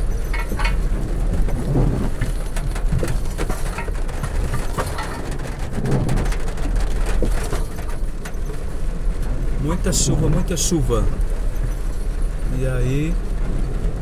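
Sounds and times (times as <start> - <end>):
car engine and road rumble: 0.0 - 14.0
raindrops hitting car roof: 0.0 - 14.0.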